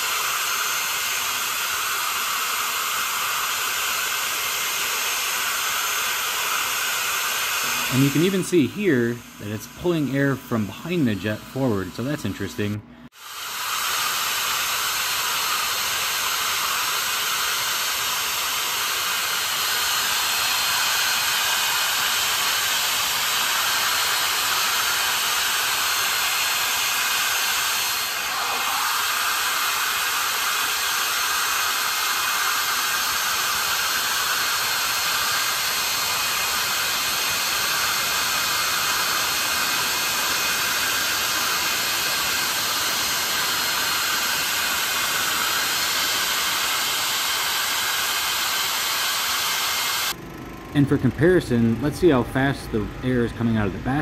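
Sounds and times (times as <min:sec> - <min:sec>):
turbojet engine running: 0:00.0 - 0:54.0.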